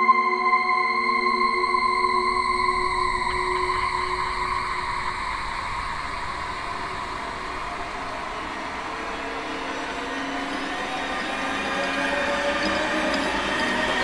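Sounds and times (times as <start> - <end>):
rumbling hiss drone: 2.3 - 14.0.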